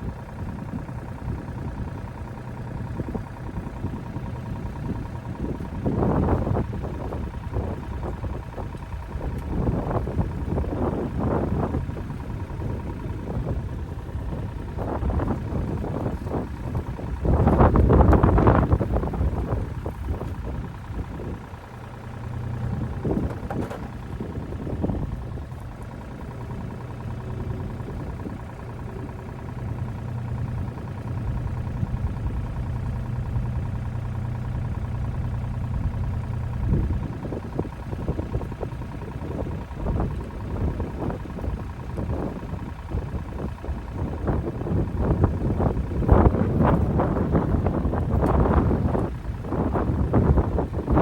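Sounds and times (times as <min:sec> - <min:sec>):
engine idling: 0:00.0 - 0:51.0
wind buffeting microphone: 0:00.0 - 0:51.0.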